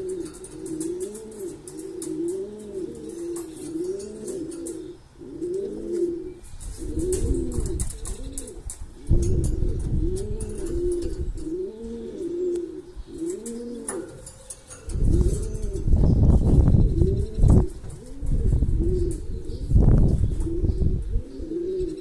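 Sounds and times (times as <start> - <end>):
pigeon cooing: 0.0 - 22.0.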